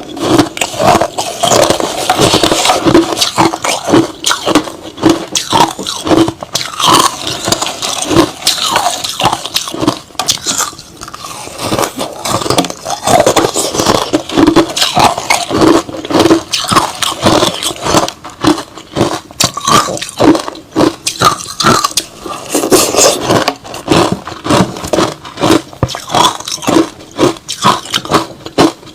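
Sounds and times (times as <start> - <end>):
crushed ice being chewed: 0.0 - 28.9.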